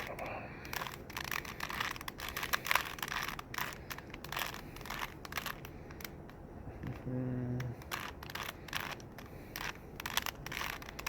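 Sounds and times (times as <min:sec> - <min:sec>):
plastic puzzle cube clicking: 0:00.0 - 0:06.4, 0:07.6 - 0:11.0.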